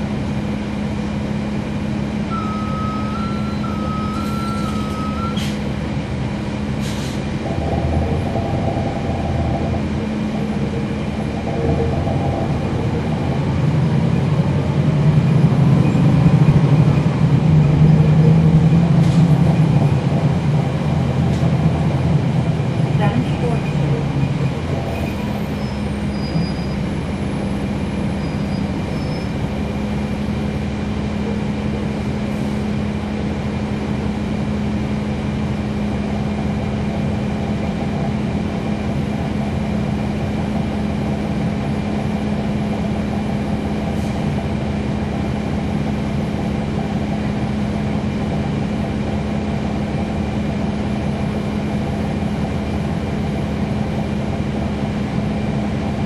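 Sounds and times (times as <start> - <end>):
bus engine hum and rumble: 0.0 - 56.0.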